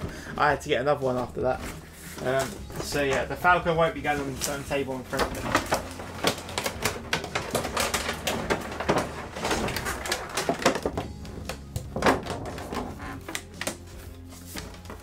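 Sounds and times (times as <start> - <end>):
plastic packaging crinkling: 1.5 - 15.0.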